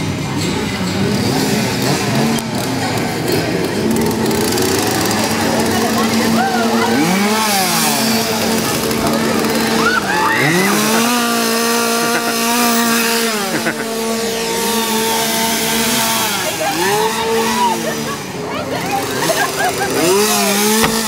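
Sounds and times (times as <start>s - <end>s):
chainsaw engine revving: 0.6s - 21.0s.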